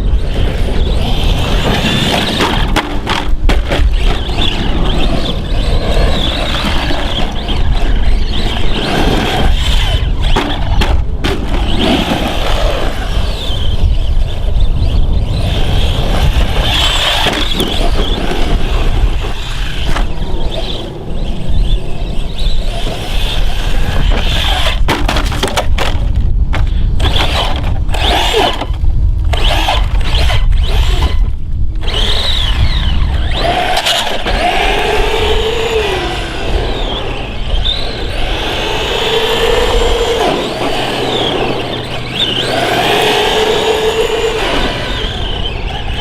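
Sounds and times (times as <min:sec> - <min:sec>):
electric motor whining: 0:00.0 - 0:24.9, 0:26.6 - 0:46.0
tyres on rough terrain: 0:00.0 - 0:46.0.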